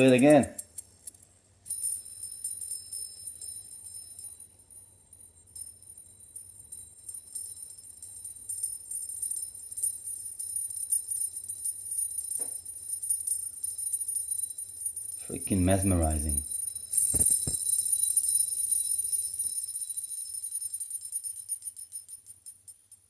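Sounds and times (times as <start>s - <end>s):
fidget spinner jingling: 0.0s - 23.0s.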